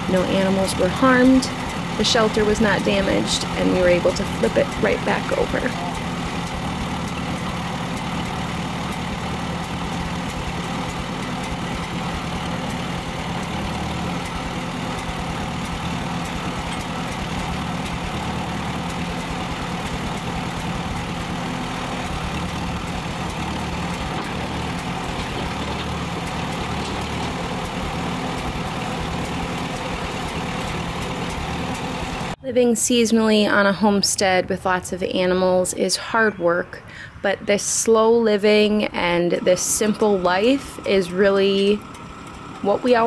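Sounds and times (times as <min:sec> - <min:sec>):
tractor engine running: 0:00.0 - 0:35.8, 0:37.1 - 0:43.0.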